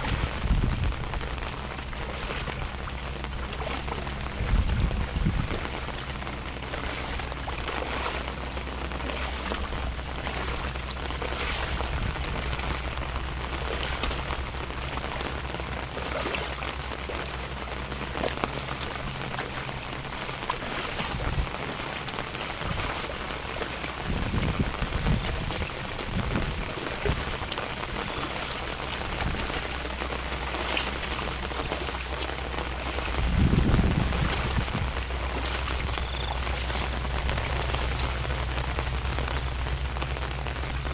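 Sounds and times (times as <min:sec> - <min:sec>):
low rumble: 0:00.0 - 0:40.9
steady rain falling: 0:00.0 - 0:40.9.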